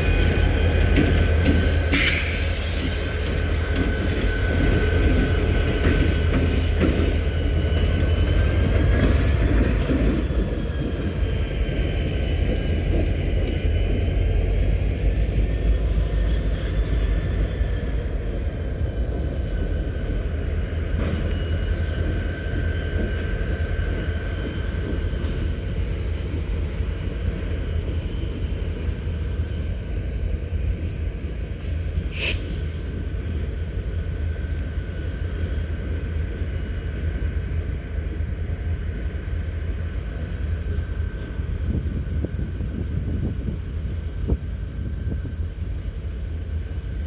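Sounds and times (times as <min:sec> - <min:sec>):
wheel squeal: 0:00.0 - 0:31.6, 0:32.2 - 0:40.0
railcars rumbling: 0:00.0 - 0:47.0.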